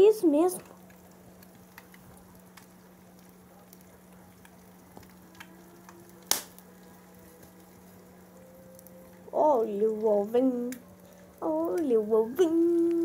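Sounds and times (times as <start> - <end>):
egg sizzling with small pops: 0.0 - 13.0
steady low hum: 0.0 - 13.0.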